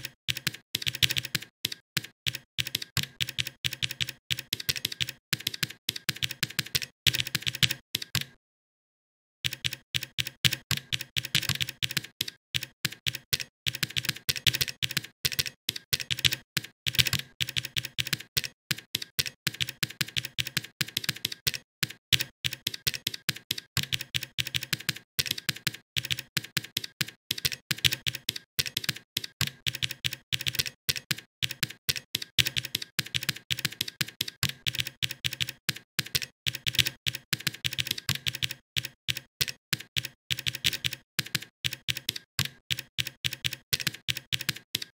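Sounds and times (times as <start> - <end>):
computer keyboard typing: 0.0 - 8.4, 9.4 - 44.9.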